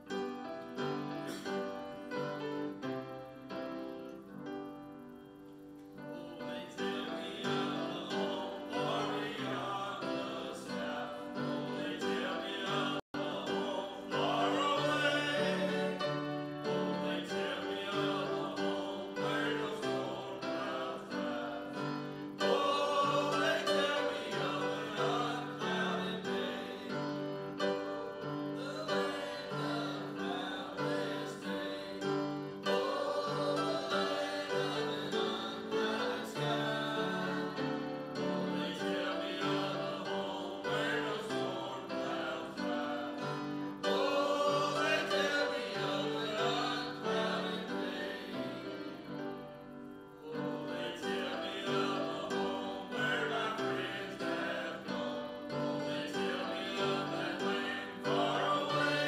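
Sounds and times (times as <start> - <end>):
piano accompaniment: 0.0 - 59.0
voices singing a hymn: 0.0 - 59.0.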